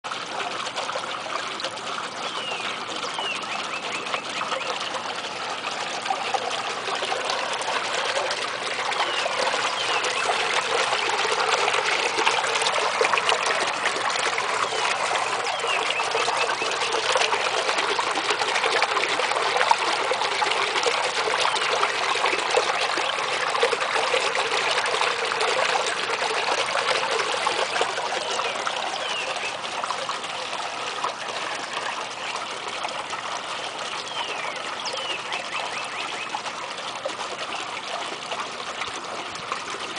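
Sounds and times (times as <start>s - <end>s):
pond fountain splashing: 0.0s - 39.9s.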